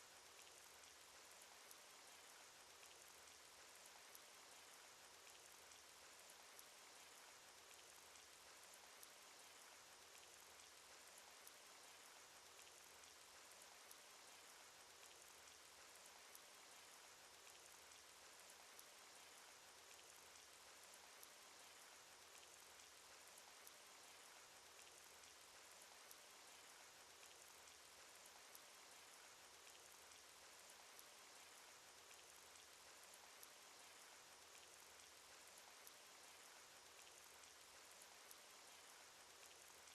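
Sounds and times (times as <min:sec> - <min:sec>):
rain hiss: 0:00.0 - 0:39.9
raindrops pattering: 0:00.1 - 0:39.9.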